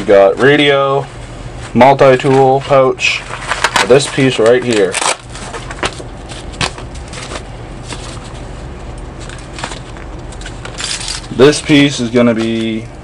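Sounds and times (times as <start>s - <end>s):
steady low hum: 0.0s - 13.0s
plastic bag rustling: 0.3s - 12.8s.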